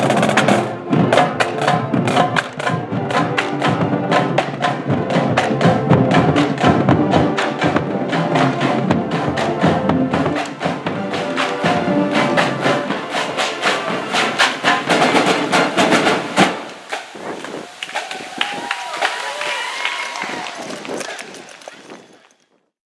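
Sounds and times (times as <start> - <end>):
drumline beating fast rhythm: 0.0 - 21.7
marching band playing: 0.0 - 22.0.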